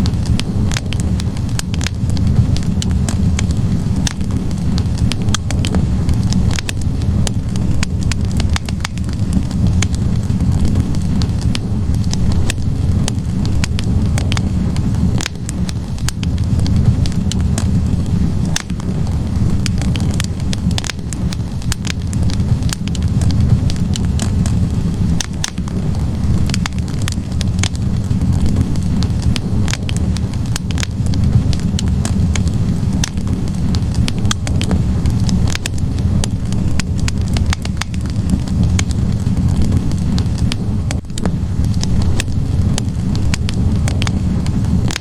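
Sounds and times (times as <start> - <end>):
fire low rumble: 0.0 - 45.0
wood fire crackling and popping: 0.0 - 45.0.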